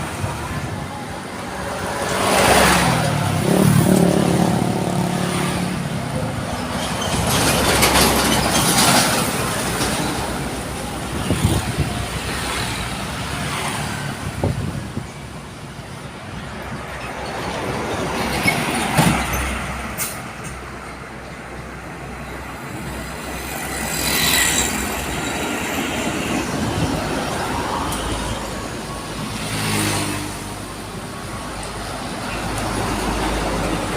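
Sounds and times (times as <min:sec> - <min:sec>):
trucks and buses passing: 0:00.0 - 0:33.9.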